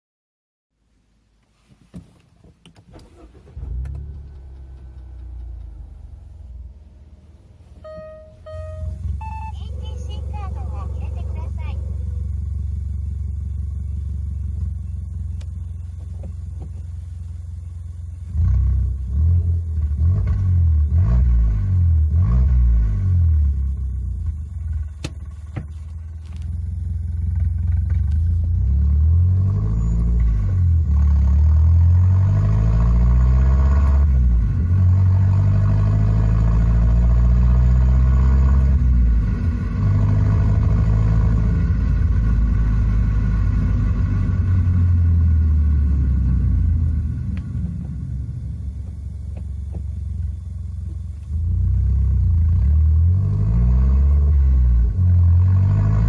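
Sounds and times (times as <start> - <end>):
car engine revving: 2.9 - 56.0.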